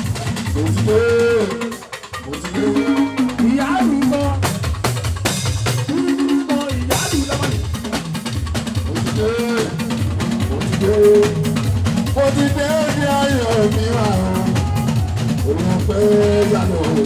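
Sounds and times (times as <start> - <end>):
dense drumming and percussion: 0.0 - 17.0.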